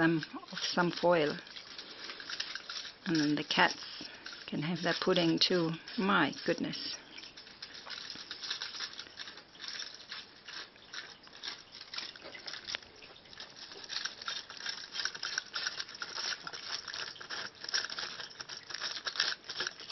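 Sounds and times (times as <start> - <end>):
aluminium foil crinkling: 0.0 - 19.9
cats eating and licking: 0.0 - 19.9.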